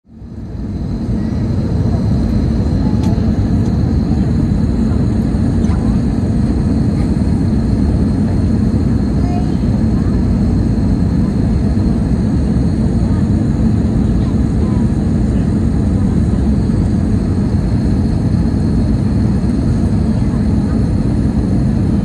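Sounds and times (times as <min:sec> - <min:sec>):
aircraft cabin roar: 0:00.1 - 0:22.0.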